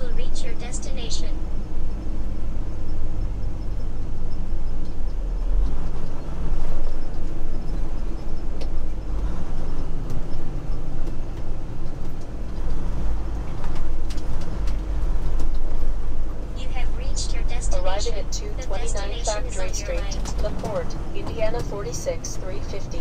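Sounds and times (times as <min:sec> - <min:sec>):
road rumble: 0:00.0 - 0:23.0
truck engine drone: 0:00.0 - 0:23.0.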